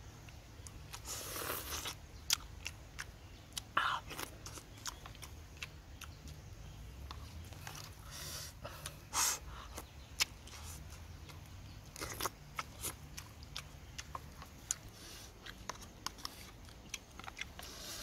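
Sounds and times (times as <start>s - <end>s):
person chewing and smacking: 0.2s - 18.0s.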